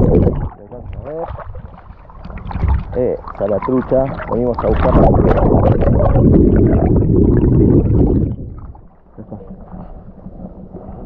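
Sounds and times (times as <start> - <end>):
muffled underwater rumbling and gurgling: 0.0 - 11.0.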